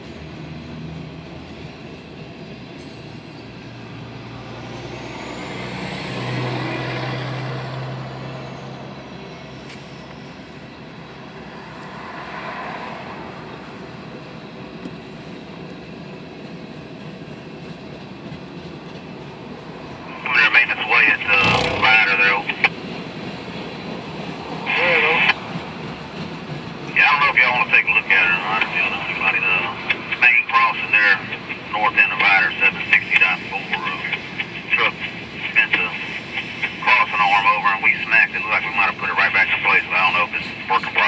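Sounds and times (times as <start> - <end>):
freight cars rolling past: 0.0 - 41.0
truck driving by: 2.8 - 15.5, 19.1 - 40.7
car passing: 3.4 - 16.4, 18.8 - 41.0.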